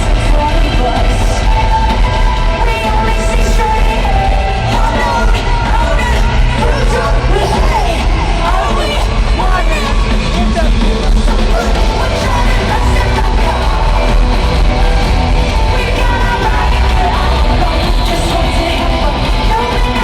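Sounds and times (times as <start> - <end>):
live rock band: 0.0 - 20.0
person singing: 0.0 - 20.0.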